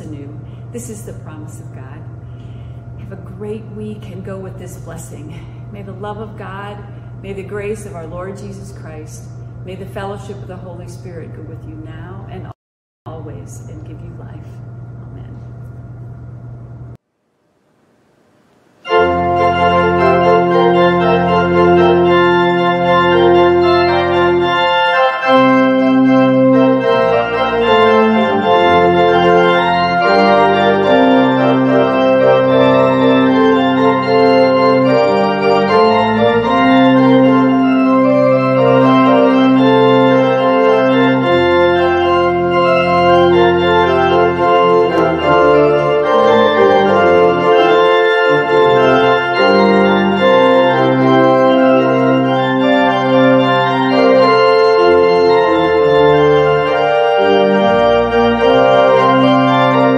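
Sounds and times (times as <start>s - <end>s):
organ playing slow chords: 0.0s - 12.1s, 17.9s - 59.9s.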